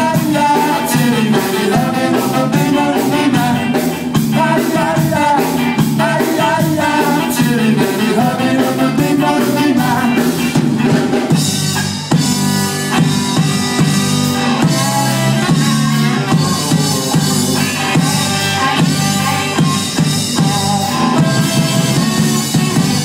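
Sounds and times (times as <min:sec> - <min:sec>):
person singing: 0:00.0 - 0:10.6, 0:14.4 - 0:23.0
live ska band playing: 0:00.0 - 0:23.0.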